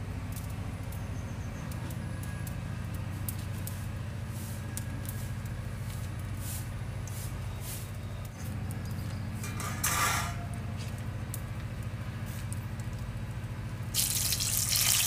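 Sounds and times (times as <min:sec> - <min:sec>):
low mechanical hum: 0:00.0 - 0:15.0
wood fire crackling: 0:00.1 - 0:15.0.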